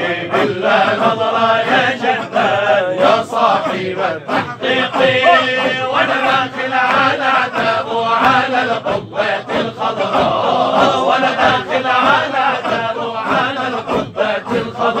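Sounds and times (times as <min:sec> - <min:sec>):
men chanting devotional song: 0:00.0 - 0:15.0.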